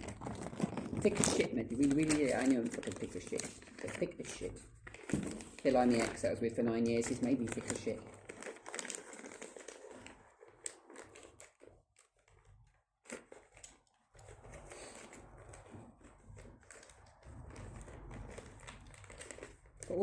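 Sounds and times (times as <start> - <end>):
packaging rustling and crinkling: 0.0 - 20.0.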